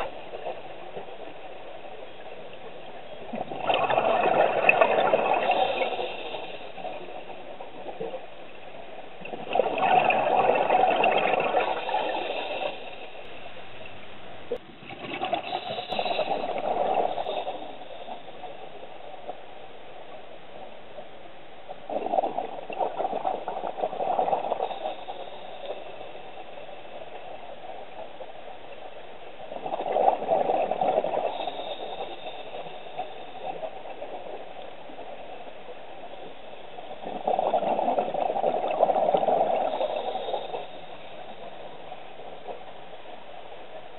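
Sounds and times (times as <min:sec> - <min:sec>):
underwater exhaled bubbles gurgling: 0:00.0 - 0:19.4, 0:21.7 - 0:43.9
steady low hiss: 0:00.0 - 0:43.9.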